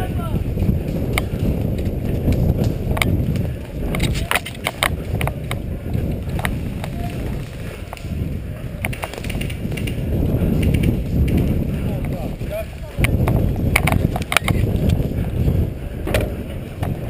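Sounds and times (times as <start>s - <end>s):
wind rumble on microphone: 0.0s - 17.0s
sharp clicks and cracks: 0.5s - 15.1s.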